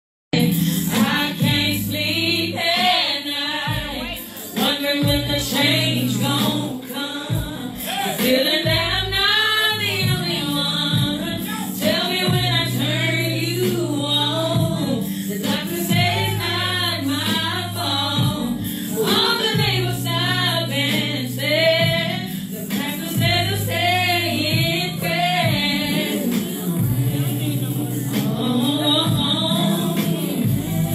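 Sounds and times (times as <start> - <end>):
backing track: 0.3 - 30.9
woman singing into a microphone: 0.4 - 30.9.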